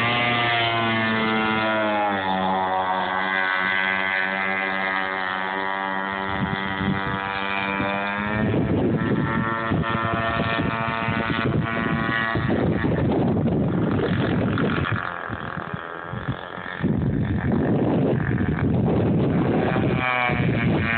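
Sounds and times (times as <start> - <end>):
model boat motor running: 0.0 - 20.9.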